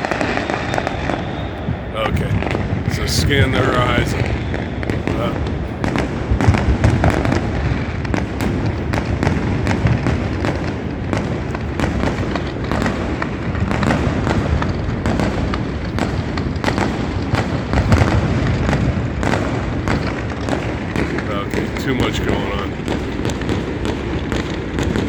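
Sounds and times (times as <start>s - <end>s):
distant firework booms: 0.0s - 25.0s
fireworks crackling and popping: 0.0s - 25.0s.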